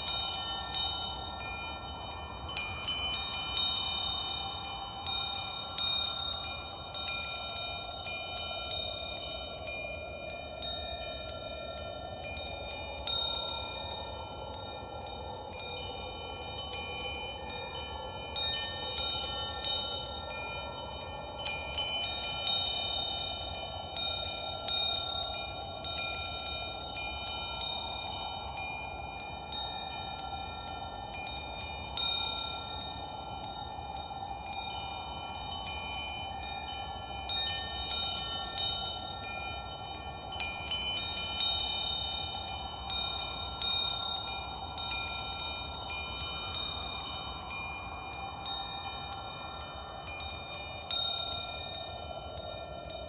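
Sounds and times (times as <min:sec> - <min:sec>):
soft steady rushing noise: 0:00.0 - 0:53.0
wind chimes ringing: 0:00.0 - 0:53.0.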